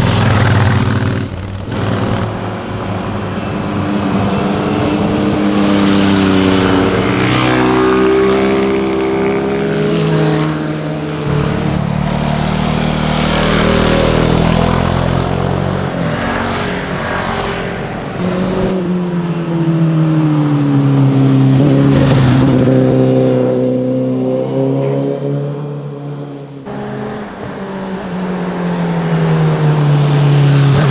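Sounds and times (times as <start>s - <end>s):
motorcycles passing: 0.0s - 30.9s.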